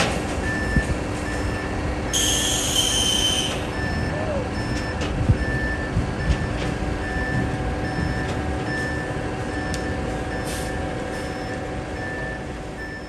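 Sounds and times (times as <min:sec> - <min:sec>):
diesel truck engines rumbling: 0:00.0 - 0:13.0
reversing alarm beeping: 0:00.4 - 0:13.0.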